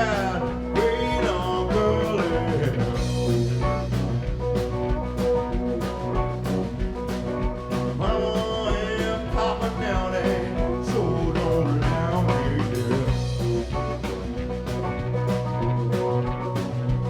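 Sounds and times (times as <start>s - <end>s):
bass guitar: 0.0s - 17.0s
drums beating: 0.0s - 17.0s
electric guitar lead line: 0.0s - 17.0s.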